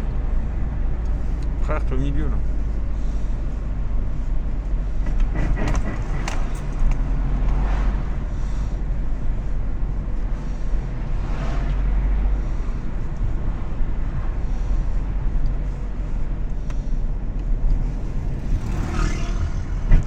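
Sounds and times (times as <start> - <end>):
road rumble inside car: 0.0 - 20.0.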